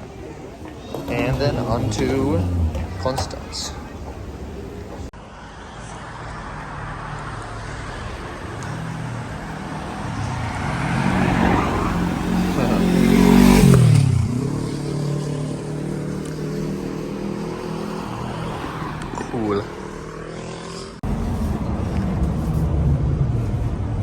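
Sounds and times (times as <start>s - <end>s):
vehicle passing by: 0.0s - 24.0s.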